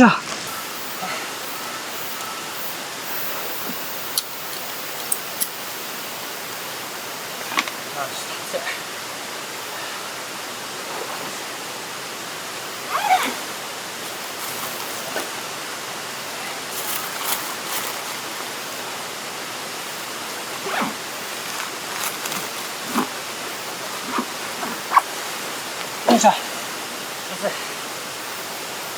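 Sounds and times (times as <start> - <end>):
river running: 0.0 - 28.9.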